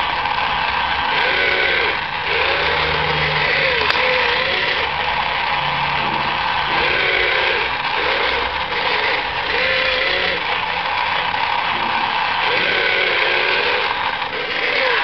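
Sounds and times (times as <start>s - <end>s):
toy excavator motors whirring: 0.0s - 15.0s.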